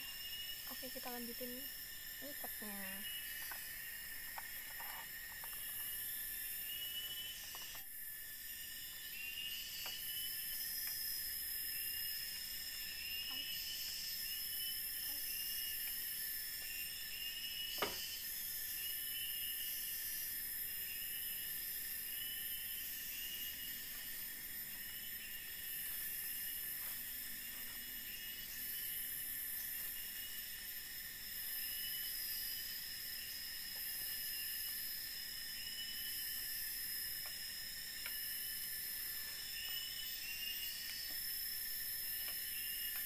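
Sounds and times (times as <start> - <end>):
insects high-pitched whine: 0.0 - 43.0
insects pulsing chirrs: 0.0 - 43.0
shrill insect layer: 0.0 - 43.0.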